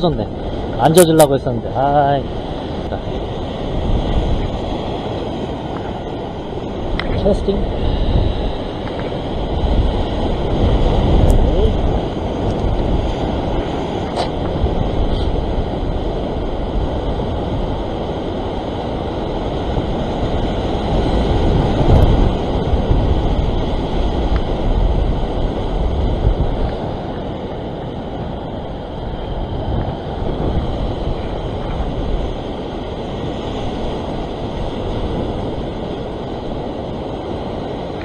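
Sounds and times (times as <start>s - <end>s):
surf washing over rocks: 0.0s - 38.0s
wind buffeting microphone: 0.0s - 38.0s.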